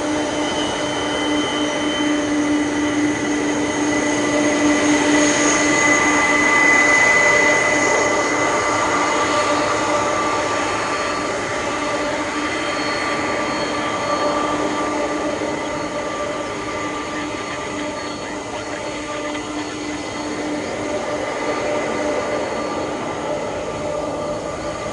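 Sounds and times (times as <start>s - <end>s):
high whining tones: 0.0s - 24.9s
jet engines roaring: 0.0s - 24.9s.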